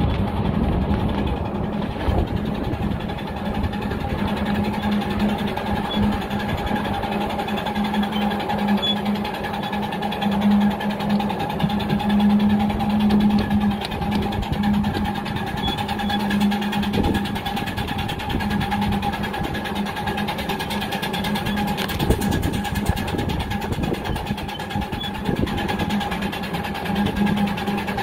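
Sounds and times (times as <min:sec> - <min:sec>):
constant low hum: 0:00.0 - 0:28.0
train wheels rumbling on track: 0:00.0 - 0:28.0.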